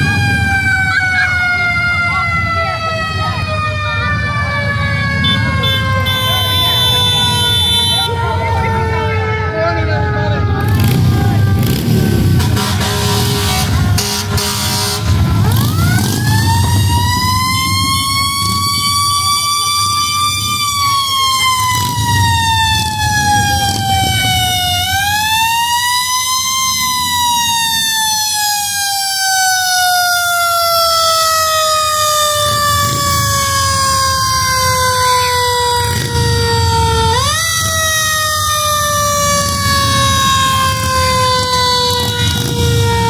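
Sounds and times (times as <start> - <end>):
fire engine siren: 0.0 - 43.0
vehicle engines rumbling: 0.0 - 43.0.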